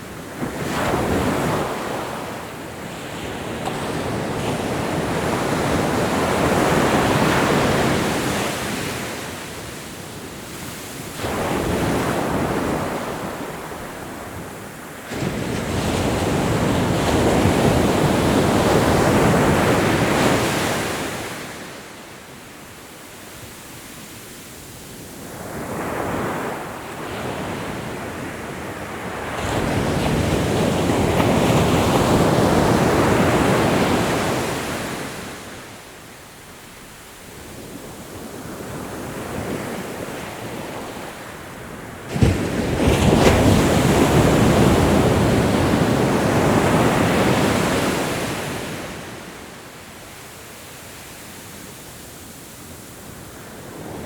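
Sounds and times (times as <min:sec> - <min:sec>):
ocean waves washing onto shore: 0:00.0 - 0:54.0.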